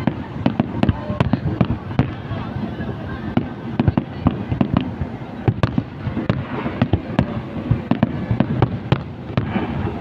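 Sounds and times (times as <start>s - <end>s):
fireworks bangs and pops: 0.0s - 2.4s, 3.3s - 10.0s.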